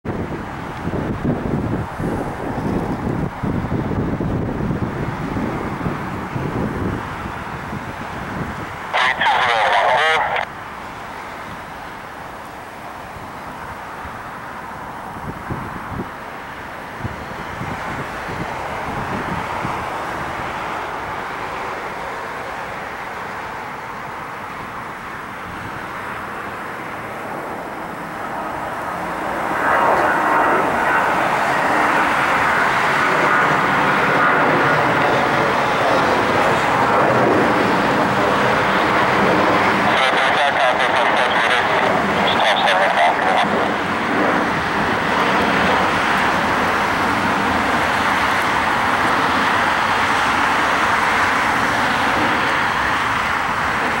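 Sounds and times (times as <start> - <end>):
jet engines at takeoff thrust: 0.0 - 54.0.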